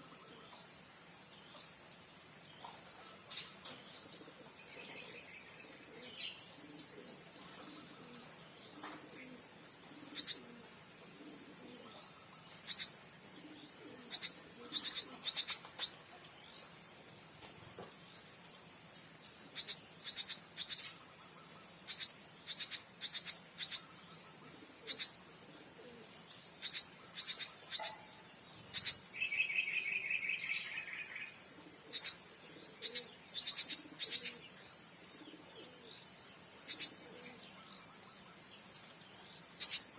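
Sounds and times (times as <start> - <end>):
insect drone: 0.0 - 39.9.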